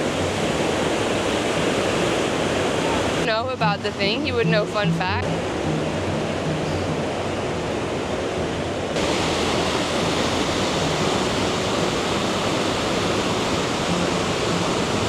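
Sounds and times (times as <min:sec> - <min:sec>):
rush of falling water: 0:00.0 - 0:03.6, 0:04.4 - 0:15.0.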